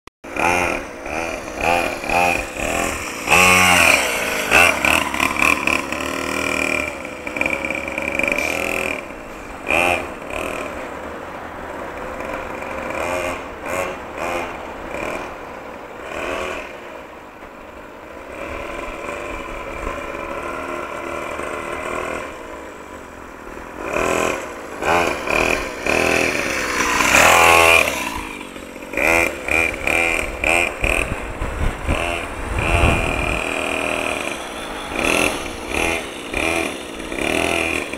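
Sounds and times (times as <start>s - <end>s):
motocross bike engine revving: 0.2s - 17.1s, 18.1s - 37.9s.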